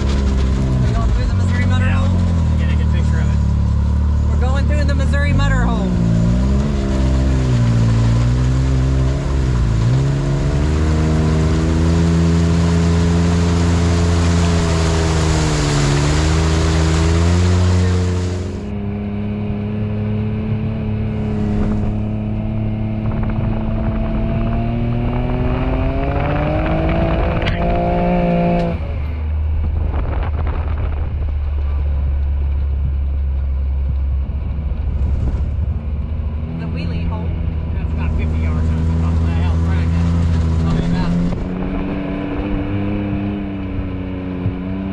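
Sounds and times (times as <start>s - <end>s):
off-road vehicle engine revving: 0.0s - 44.9s
steady low drone: 0.0s - 44.9s.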